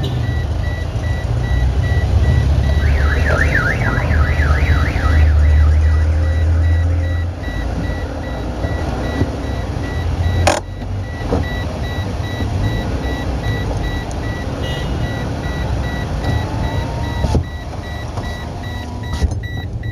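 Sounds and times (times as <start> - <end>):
engine and road rumble: 0.0 - 19.9.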